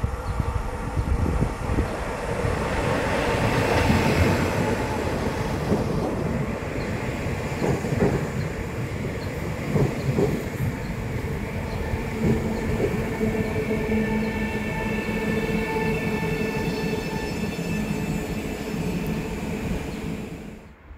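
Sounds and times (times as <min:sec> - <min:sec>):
train wheels rumbling on rails: 0:00.0 - 0:20.6
train hum: 0:00.0 - 0:20.9.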